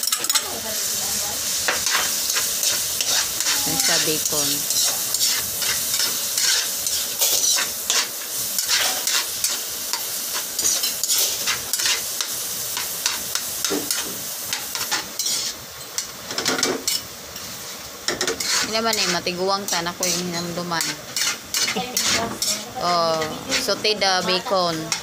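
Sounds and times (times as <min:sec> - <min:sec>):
bacon sizzling in a wok: 0:00.0 - 0:25.0
metal spatula scraping pan: 0:01.5 - 0:17.5, 0:18.1 - 0:25.0.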